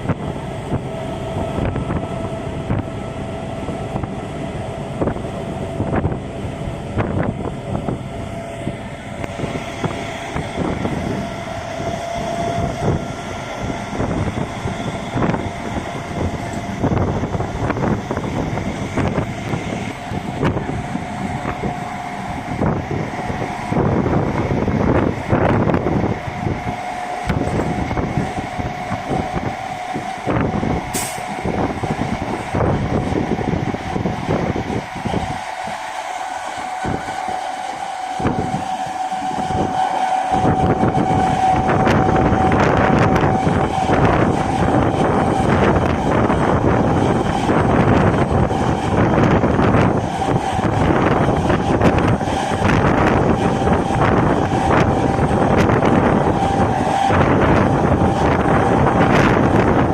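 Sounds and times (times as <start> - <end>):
steady whine: 0.0 - 59.9
train rumble: 0.0 - 59.9.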